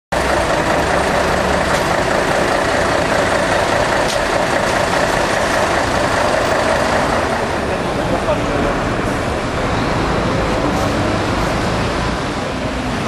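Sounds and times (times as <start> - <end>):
heavy vehicle engine idling: 0.1 - 12.1.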